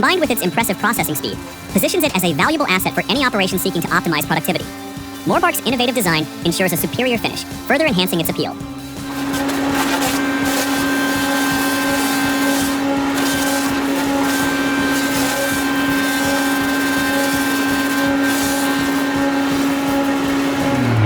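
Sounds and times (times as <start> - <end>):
machine motor droning: 0.0 - 21.0
machine working noise: 0.0 - 21.0.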